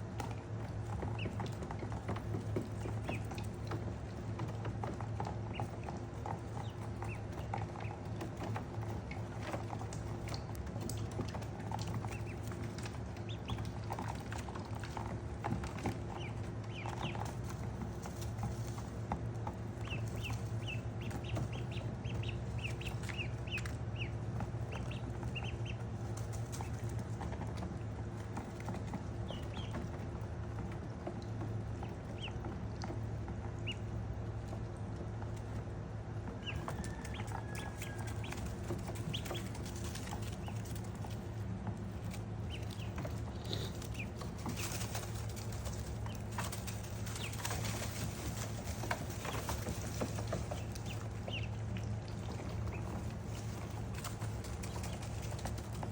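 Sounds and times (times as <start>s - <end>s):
ducklings peeping: 0.0s - 55.9s
steady low hum: 0.0s - 55.9s.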